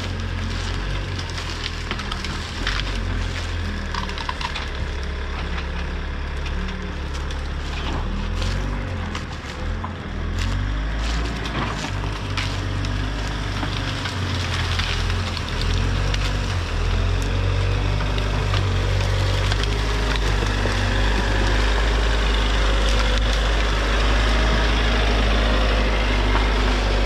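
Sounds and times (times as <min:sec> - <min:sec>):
branches cracking and snapping: 0:00.0 - 0:27.0
diesel engine revving: 0:00.0 - 0:27.0.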